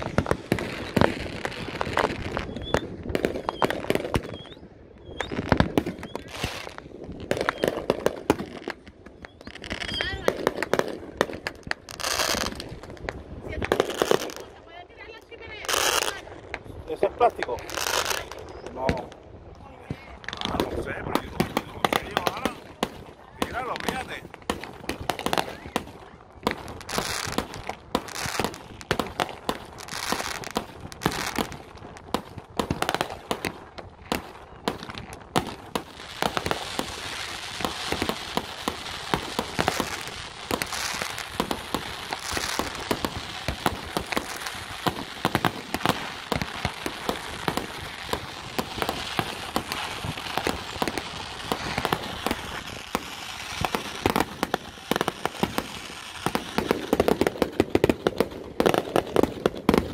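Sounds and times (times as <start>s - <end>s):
fireworks bangs and pops: 0.0s - 59.9s
fireworks crackling: 0.0s - 59.9s.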